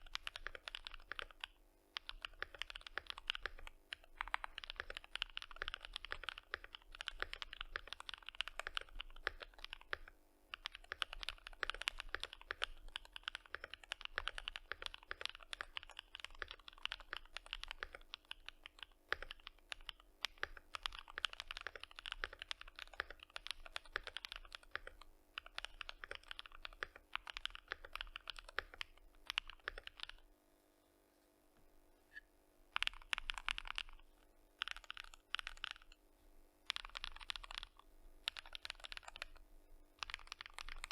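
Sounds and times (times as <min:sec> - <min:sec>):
mechanical keyboard typing: 0:00.0 - 0:30.2, 0:32.8 - 0:34.0, 0:34.6 - 0:36.0, 0:36.7 - 0:39.4, 0:40.0 - 0:40.9.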